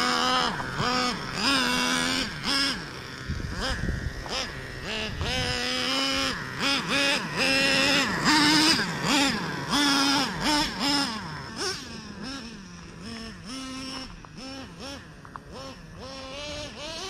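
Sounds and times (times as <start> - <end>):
rc truck engine revving: 0.0 - 17.0.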